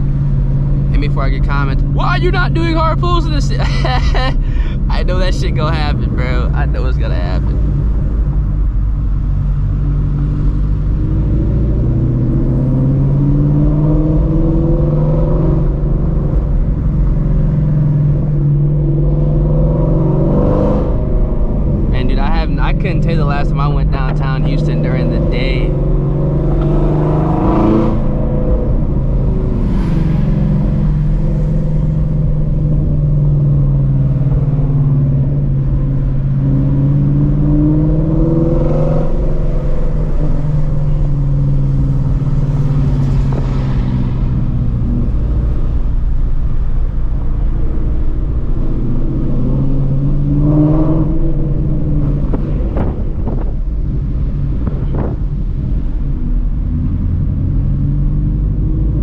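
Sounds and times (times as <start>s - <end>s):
car exhaust rumbling: 0.0s - 59.0s.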